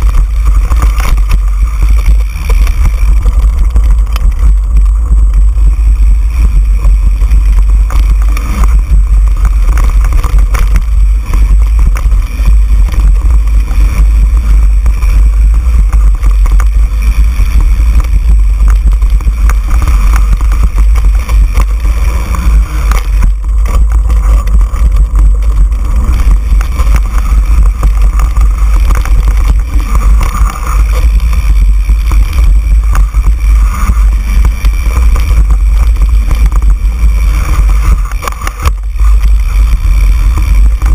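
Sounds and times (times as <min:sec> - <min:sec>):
bike rattling and knocking: 0:00.0 - 0:40.9
wind rumble on microphone: 0:00.0 - 0:40.9.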